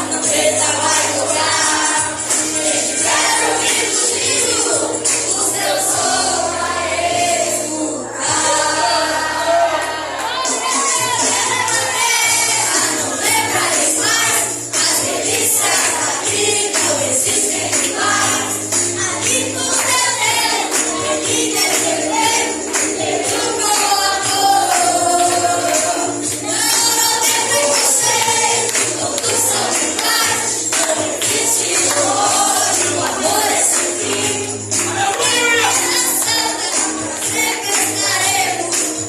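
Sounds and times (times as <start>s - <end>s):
tambourine beat: 0.0s - 7.2s, 10.4s - 39.0s
voices singing a hymn: 0.0s - 39.0s.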